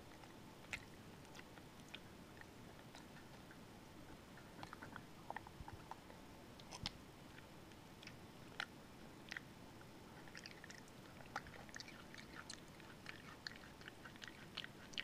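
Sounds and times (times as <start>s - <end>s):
monkey chewing and lip-smacking: 0.1s - 9.5s, 10.1s - 15.0s.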